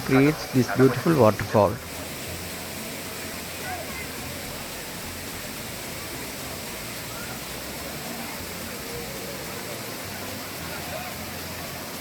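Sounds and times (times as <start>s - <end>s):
faint voices: 0.0s - 12.0s
waterfall roar: 0.0s - 12.0s.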